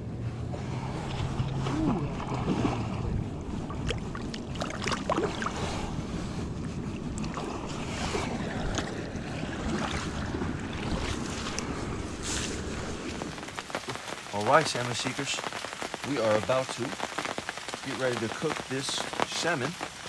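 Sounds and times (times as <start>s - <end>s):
river water: 0.3s - 6.2s, 7.0s - 12.1s, 13.1s - 20.0s.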